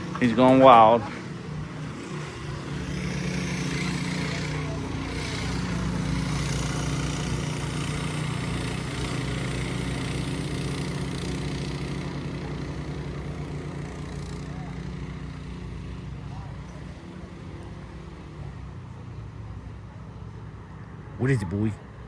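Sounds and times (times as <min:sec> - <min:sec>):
small off-road vehicle engine running: 0:00.0 - 0:22.0.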